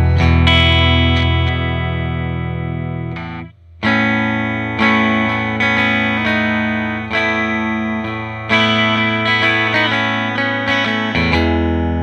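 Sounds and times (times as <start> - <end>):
electric guitar chords: 0.0 - 12.0
picked guitar notes: 0.0 - 12.0.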